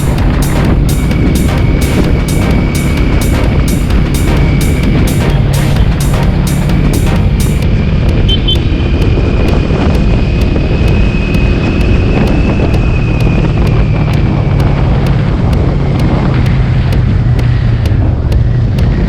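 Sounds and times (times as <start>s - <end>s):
high whine: 0.0s - 19.0s
motorcycle engine running: 0.0s - 19.0s
wind buffeting microphone: 0.0s - 19.0s.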